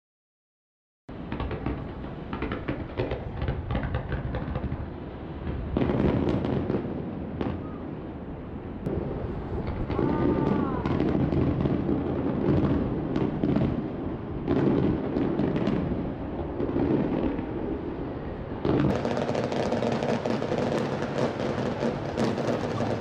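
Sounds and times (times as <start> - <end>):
fireworks bangs and crackling: 1.1 - 23.0.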